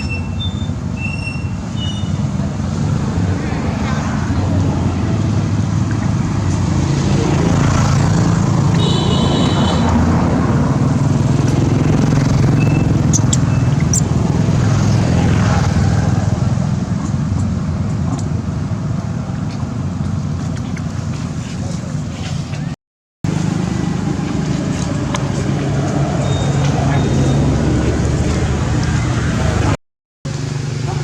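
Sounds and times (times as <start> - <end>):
motor engine droning: 0.0 - 22.7, 23.3 - 31.0.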